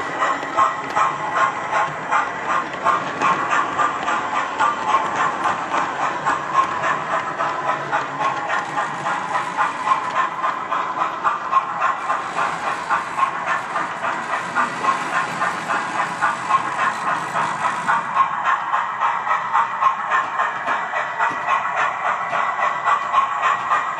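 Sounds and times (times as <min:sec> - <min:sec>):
hiss: 0:00.0 - 0:23.9
synthesised steam locomotive chuffing: 0:00.0 - 0:23.9.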